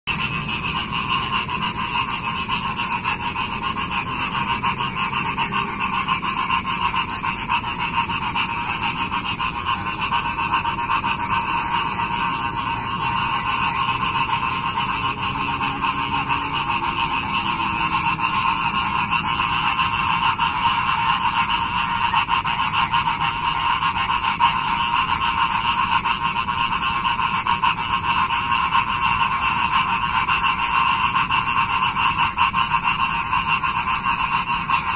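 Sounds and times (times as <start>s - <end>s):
frogs calling: 0.1s - 34.9s.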